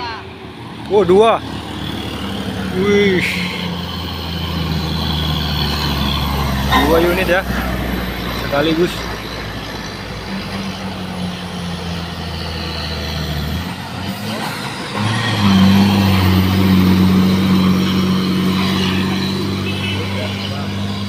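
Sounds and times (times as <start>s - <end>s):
truck diesel engine labouring: 0.0s - 21.0s.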